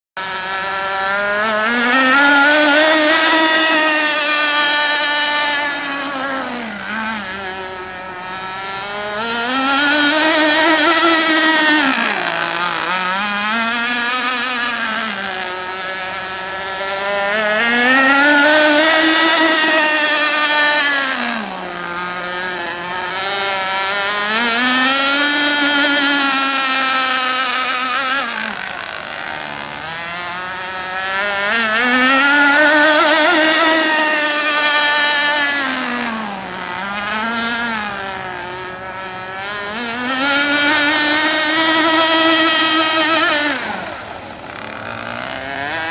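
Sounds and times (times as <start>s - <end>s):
model speedboat engine racing: 0.2s - 45.9s.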